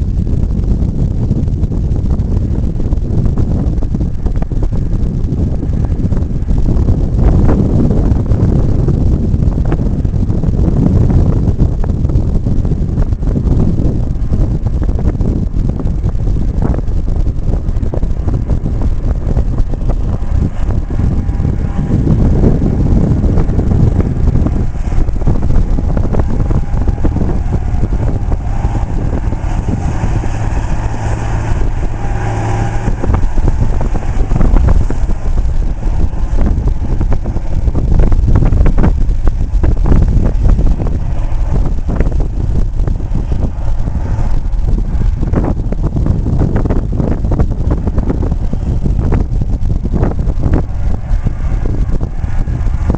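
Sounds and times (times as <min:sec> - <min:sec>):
diesel engine driving past: 0:00.0 - 0:52.9.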